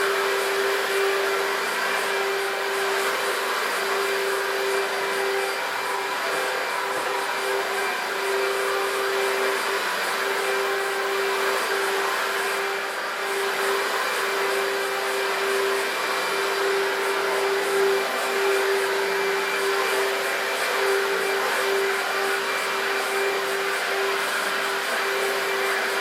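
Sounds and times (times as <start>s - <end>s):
vacuum cleaner motor whining: 0.0s - 26.0s.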